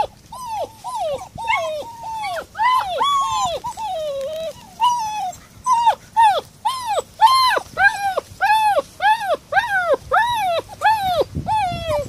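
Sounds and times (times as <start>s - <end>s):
puppy whining: 0.0s - 12.0s.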